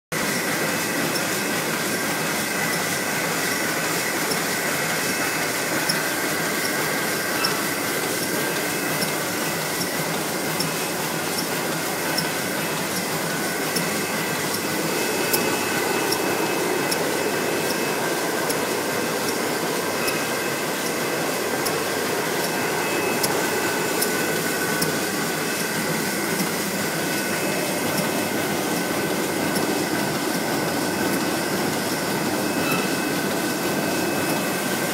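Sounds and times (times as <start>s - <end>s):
sharp machine clack: 0.2s - 34.9s.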